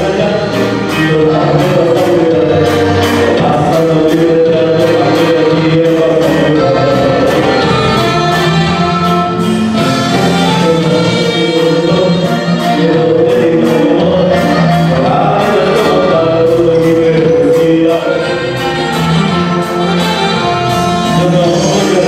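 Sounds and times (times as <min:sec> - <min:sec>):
live band playing dance music: 0:00.0 - 0:22.0
person singing: 0:00.0 - 0:22.0.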